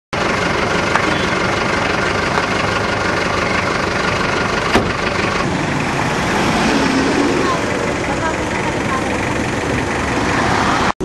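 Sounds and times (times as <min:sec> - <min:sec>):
vehicle engine running: 0:00.2 - 0:11.0.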